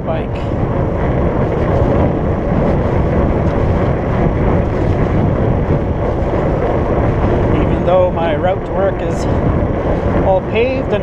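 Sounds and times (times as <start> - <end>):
bike tyres rumbling on pavement: 0.0 - 11.0
wind buffeting microphone: 0.0 - 11.0.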